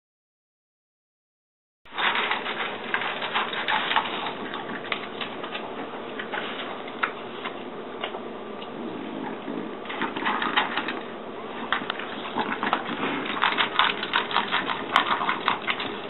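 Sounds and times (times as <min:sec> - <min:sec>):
dog crunching kibble in metal bowl: 0:01.9 - 0:07.6, 0:08.8 - 0:16.0.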